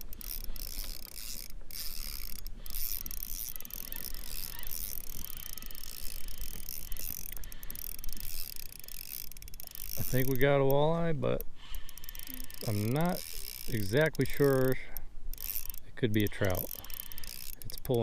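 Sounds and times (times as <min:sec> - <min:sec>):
fishing reel gear clicking: 0:00.0 - 0:18.0.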